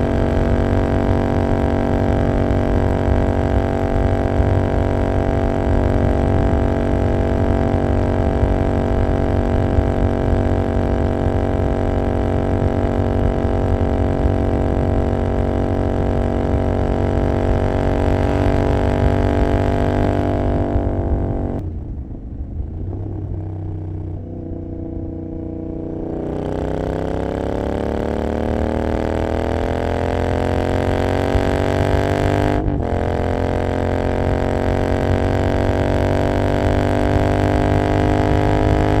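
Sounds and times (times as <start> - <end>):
motorcycle engine at speed: 0.0 - 39.0.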